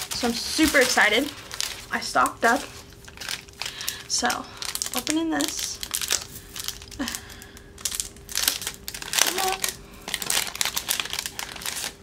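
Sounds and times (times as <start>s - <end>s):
plastic sleeve crinkling: 0.0s - 12.0s.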